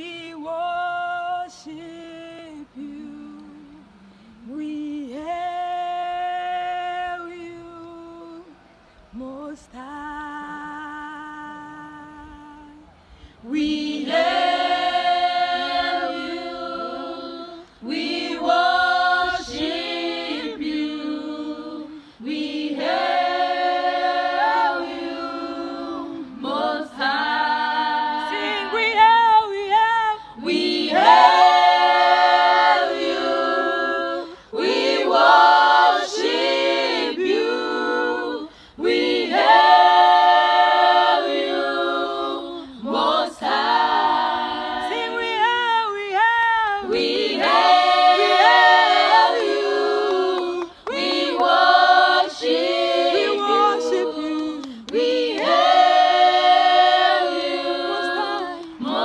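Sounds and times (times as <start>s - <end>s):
women singing a cappella: 0.0s - 59.0s.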